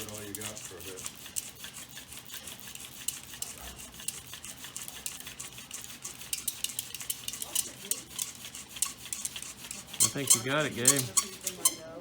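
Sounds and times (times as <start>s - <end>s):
fire drill spindle grinding wood: 0.0s - 11.8s.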